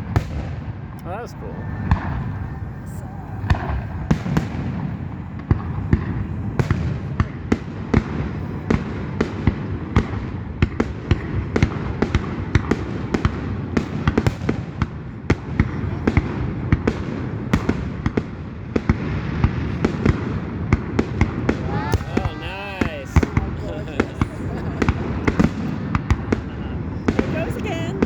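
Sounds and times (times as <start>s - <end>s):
fireworks bangs: 0.0s - 28.0s
low rumble of fireworks: 0.0s - 28.0s.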